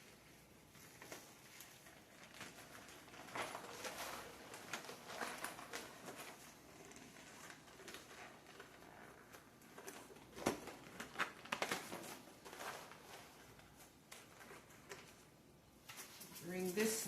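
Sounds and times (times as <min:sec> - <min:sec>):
plastic cover rustling and crinkling: 0:00.0 - 0:17.0.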